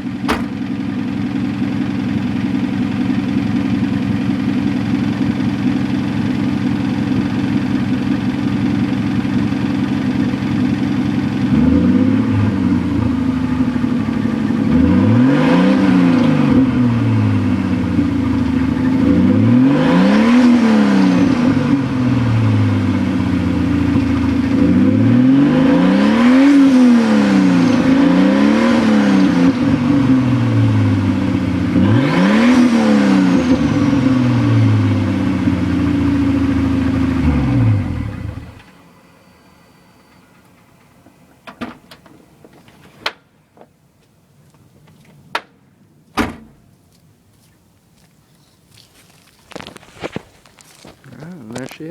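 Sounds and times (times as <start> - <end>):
car engine idling and revving: 0.0 - 45.3, 48.7 - 51.9.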